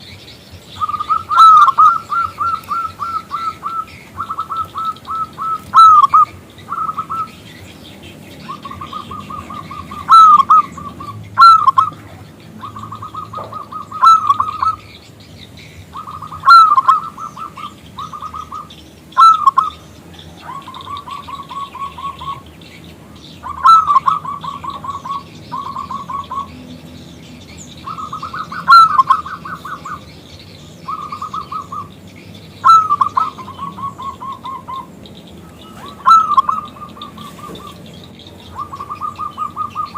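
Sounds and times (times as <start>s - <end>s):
dove cooing: 0.7s - 15.0s, 15.8s - 39.9s.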